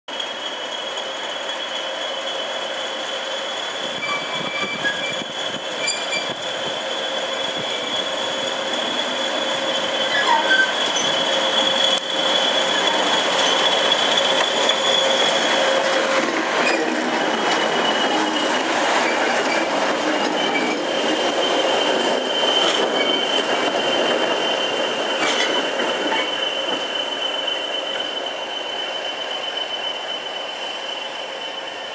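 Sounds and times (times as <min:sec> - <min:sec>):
diesel locomotive engine: 0:00.1 - 0:31.9
high-pitched whistle: 0:03.4 - 0:31.9.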